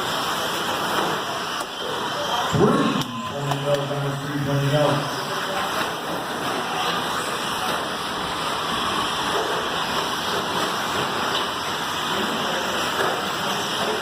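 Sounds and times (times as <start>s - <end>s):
electric motors hissing: 0.0s - 14.0s.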